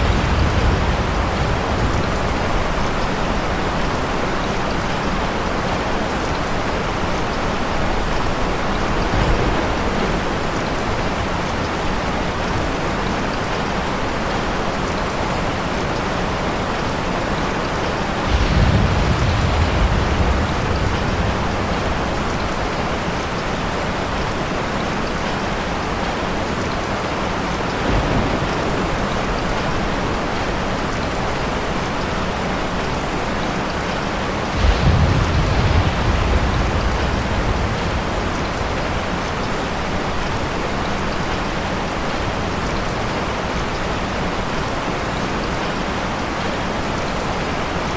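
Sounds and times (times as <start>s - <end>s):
thunder rumbling: 0.0s - 13.0s, 16.3s - 25.4s, 27.6s - 44.0s
heavy rain falling: 0.0s - 47.9s.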